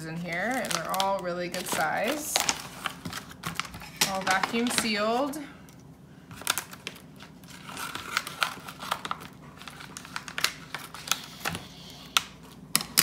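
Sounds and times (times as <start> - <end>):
plastic pouch crinkling: 0.2 - 5.4, 6.3 - 11.6.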